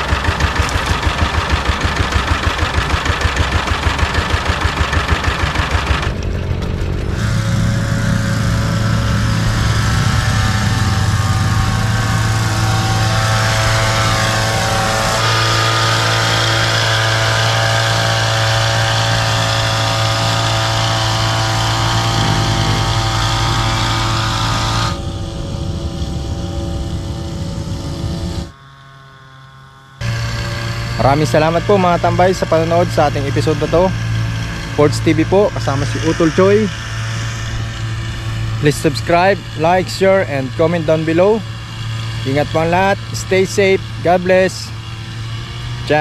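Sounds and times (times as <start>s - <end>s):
two-stroke sprayer engine running: 0.0s - 46.0s.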